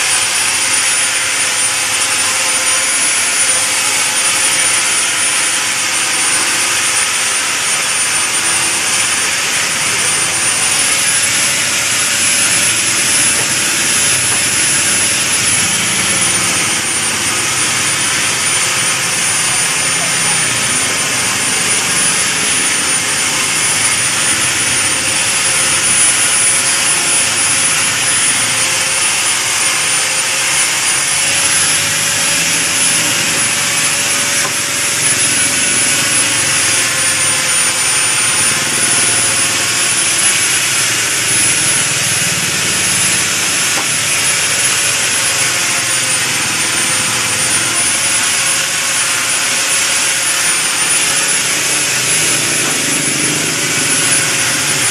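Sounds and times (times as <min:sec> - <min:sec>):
woodworking machine whining: 0:00.0 - 0:54.9.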